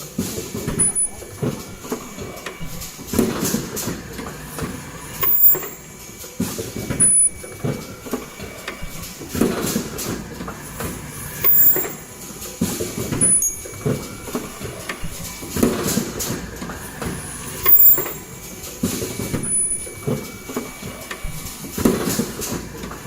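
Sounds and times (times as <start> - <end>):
machine mechanical clatter: 0.0 - 23.0.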